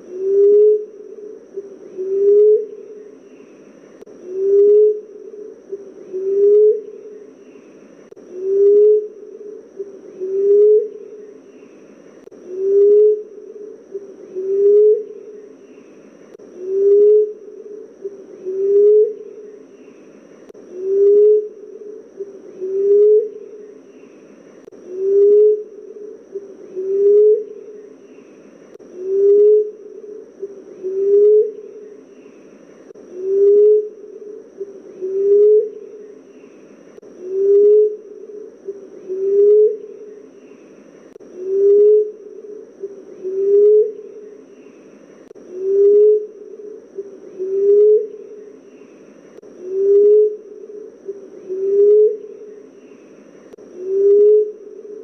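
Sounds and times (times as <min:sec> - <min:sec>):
dove cooing: 0:00.0 - 0:55.0
faint high chirping: 0:00.0 - 0:55.0.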